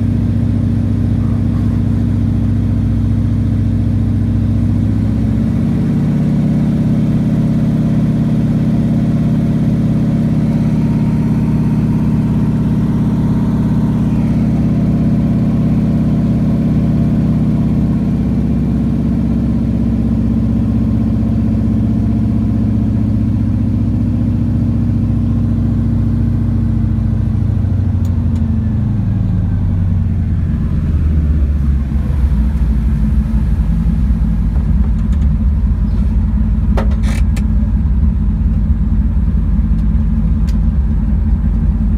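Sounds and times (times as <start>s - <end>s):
propeller engine droning: 0.0s - 41.9s.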